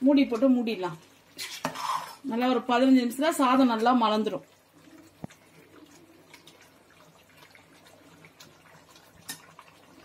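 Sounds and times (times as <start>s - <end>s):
pot simmering with bubbling: 0.0s - 10.0s.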